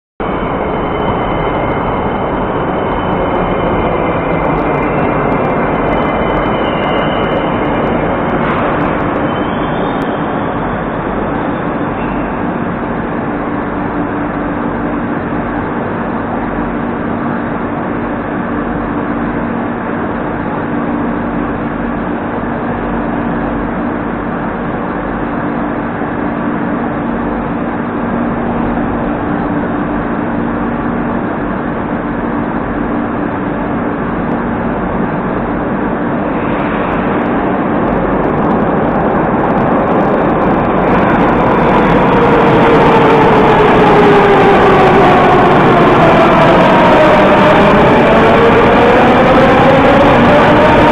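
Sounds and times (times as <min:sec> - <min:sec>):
train equipment humming: 0:00.2 - 0:50.9.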